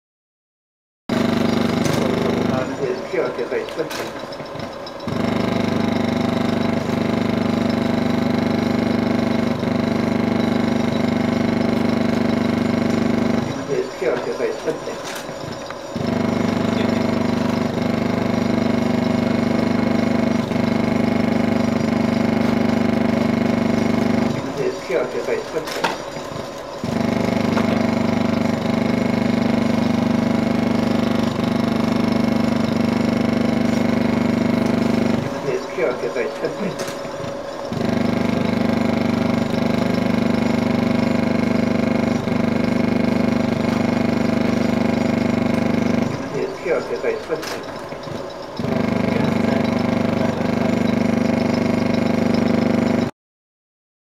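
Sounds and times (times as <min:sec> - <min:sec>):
film projector buzzing drone: 0:01.1 - 0:53.1.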